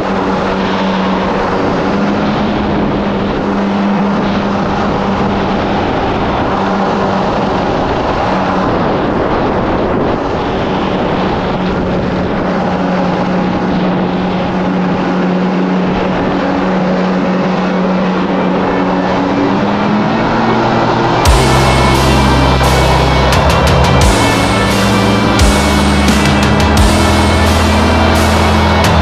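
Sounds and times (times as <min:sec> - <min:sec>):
jet ski engine running: 0:00.0 - 0:29.0
water rushing along hull: 0:00.0 - 0:29.0.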